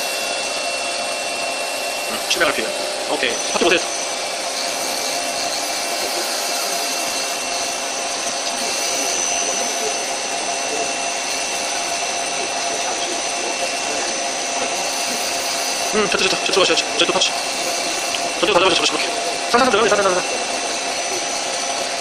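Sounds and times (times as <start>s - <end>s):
lathe humming with high tones: 0.0s - 22.0s.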